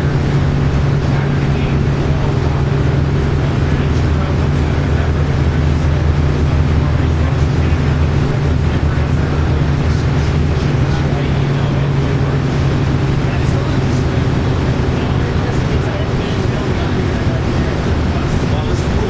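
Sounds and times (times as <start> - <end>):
bus engine drone: 0.0 - 19.0
road noise: 0.0 - 19.0.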